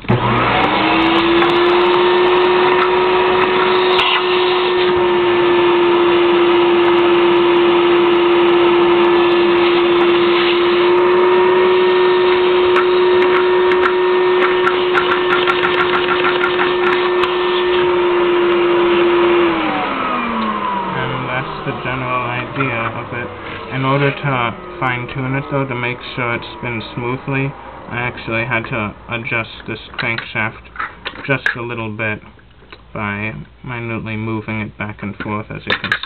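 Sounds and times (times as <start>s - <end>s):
vacuum cleaner motor humming: 0.0s - 29.0s.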